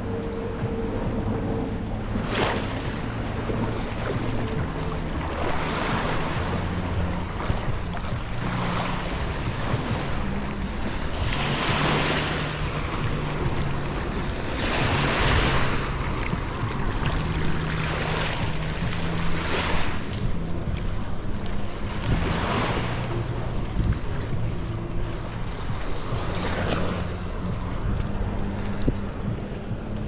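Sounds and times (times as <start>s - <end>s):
wind rumbling on microphone: 0.0s - 30.0s
small waves washing on shore: 2.0s - 30.0s.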